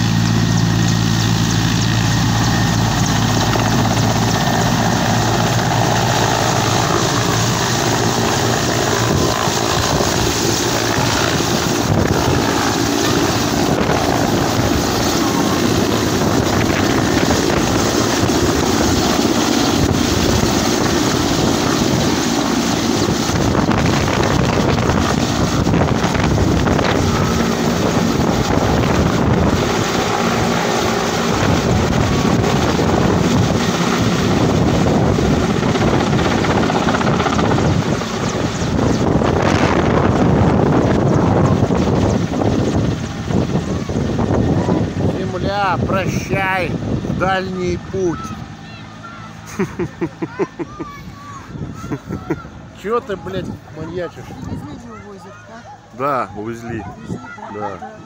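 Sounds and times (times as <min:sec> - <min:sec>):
helicopter rotor and engines: 0:00.0 - 0:58.0
rotor wash buffeting microphone: 0:00.0 - 0:58.0.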